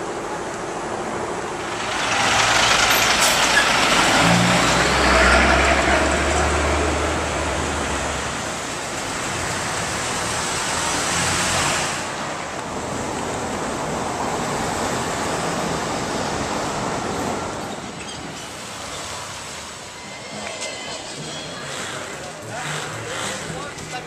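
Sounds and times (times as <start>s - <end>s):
road noise on cobbles: 0.0s - 24.0s
vehicle engine drone: 0.0s - 24.0s.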